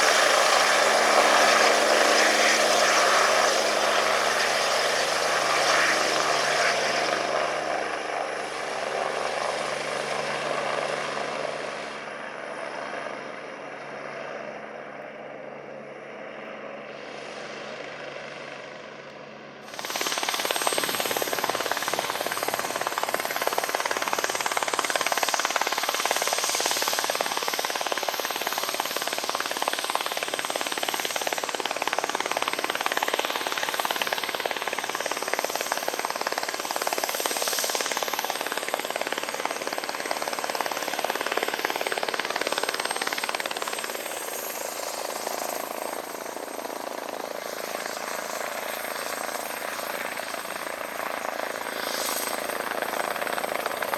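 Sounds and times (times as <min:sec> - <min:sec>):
high turbine whine: 0:00.0 - 0:11.5, 0:19.7 - 0:53.9
helicopter rotor chop: 0:00.0 - 0:13.4, 0:19.6 - 0:53.9.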